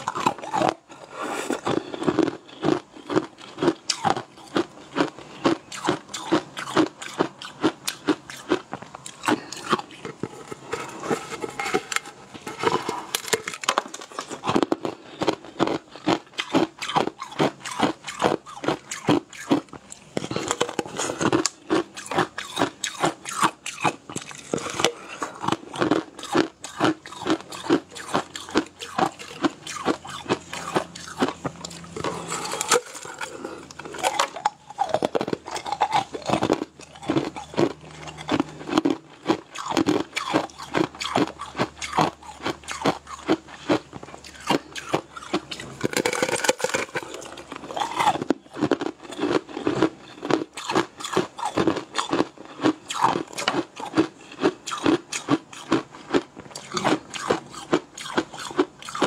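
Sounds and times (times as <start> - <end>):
chewing and crunching candy: 0.0 - 59.0.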